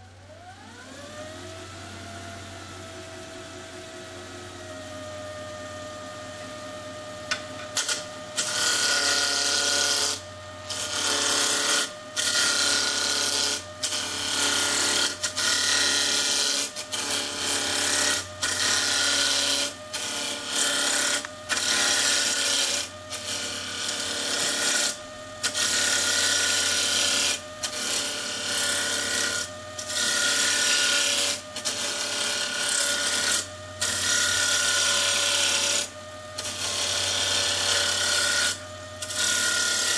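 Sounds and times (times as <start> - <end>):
lathe motor whine: 0.0 - 39.9
chisel cutting spinning wood: 5.0 - 39.9.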